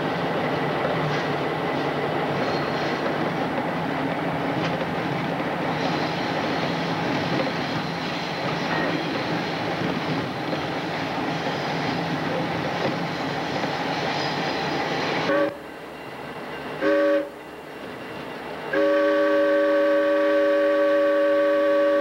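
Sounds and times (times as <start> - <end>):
train wheel and rail noise: 0.0 - 22.0.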